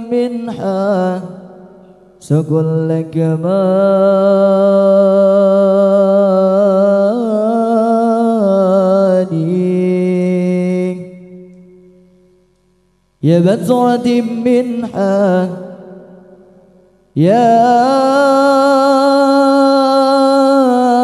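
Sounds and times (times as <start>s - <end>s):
man singing unaccompanied: 0.0s - 12.1s, 13.2s - 21.0s.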